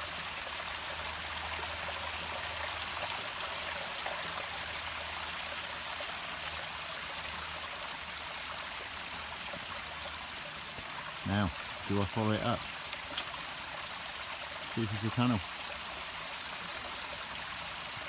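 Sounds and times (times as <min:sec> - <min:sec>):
water running down stone steps: 0:00.0 - 0:18.0.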